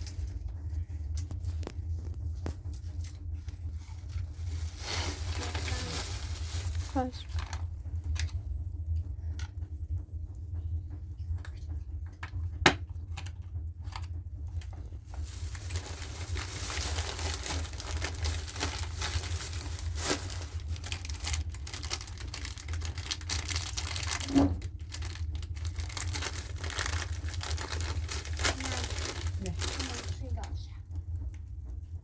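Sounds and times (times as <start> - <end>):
crinkling and rustling handling: 0.0 - 8.4, 11.3 - 31.2
steady low hum: 0.0 - 32.0.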